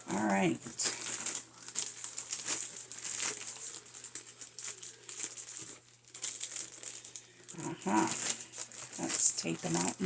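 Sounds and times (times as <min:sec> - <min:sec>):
packing paper crinkling: 0:00.0 - 0:10.0.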